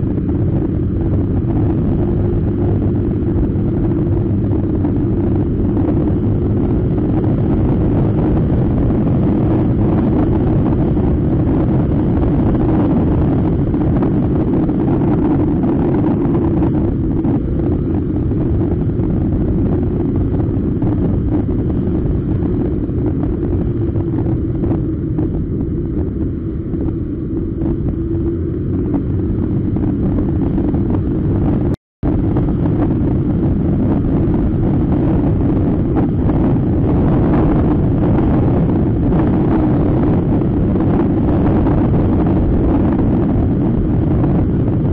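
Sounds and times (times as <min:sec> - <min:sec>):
scooter engine drone: 0:00.0 - 0:44.9
wind rushing over camera: 0:00.0 - 0:44.9.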